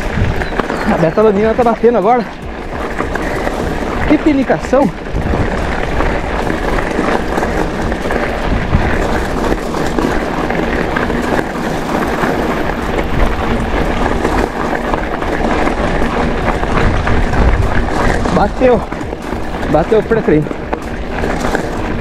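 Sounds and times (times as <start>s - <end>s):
bike tyres crunching on gravel: 0.0s - 22.0s
wind on microphone: 0.0s - 22.0s.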